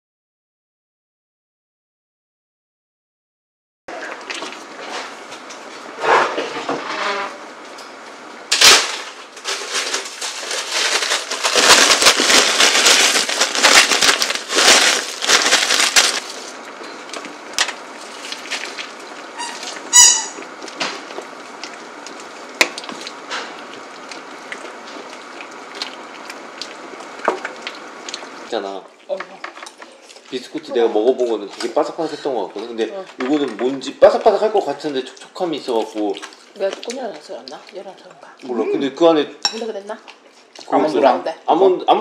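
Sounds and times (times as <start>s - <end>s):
pot boiling hard: 3.9s - 40.9s.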